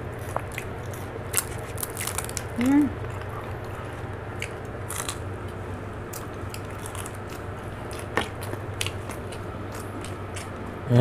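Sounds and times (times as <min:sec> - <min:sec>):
chewing and crunching: 0:00.0 - 0:10.8
low steady hum: 0:00.0 - 0:11.0.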